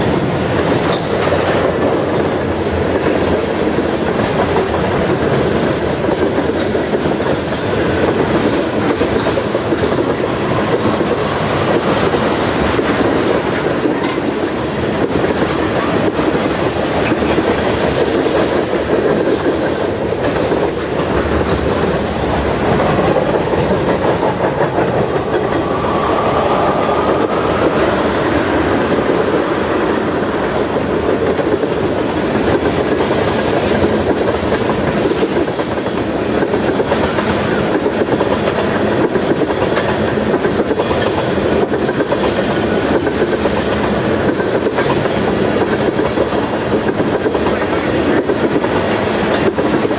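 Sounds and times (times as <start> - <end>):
freight train wheels clattering: 0.0 - 49.9.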